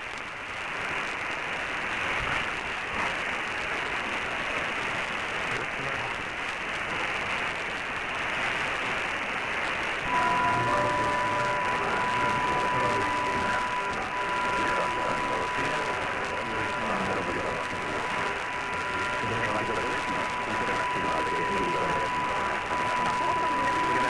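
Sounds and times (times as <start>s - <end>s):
steady static hiss: 0.0s - 24.0s.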